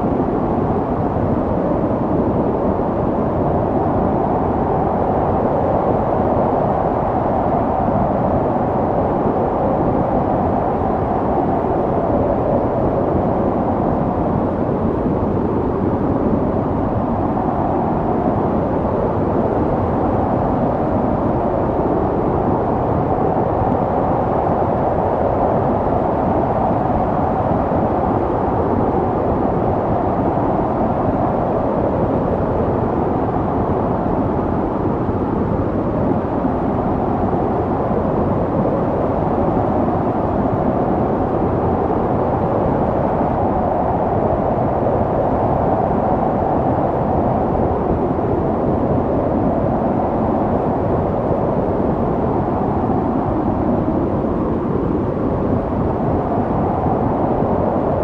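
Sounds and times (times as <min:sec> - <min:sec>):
low rushing wind: 0:00.0 - 0:58.0.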